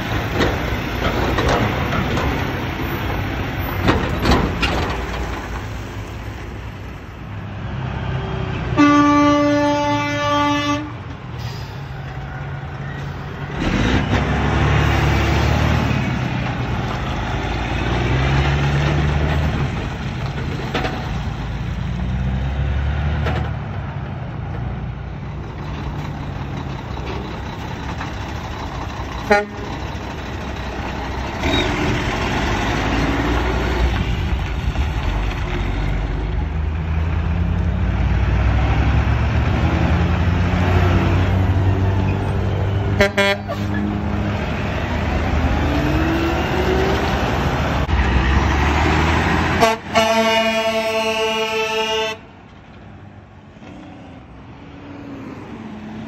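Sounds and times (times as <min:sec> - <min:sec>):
diesel trucks passing: 0:00.0 - 0:56.0.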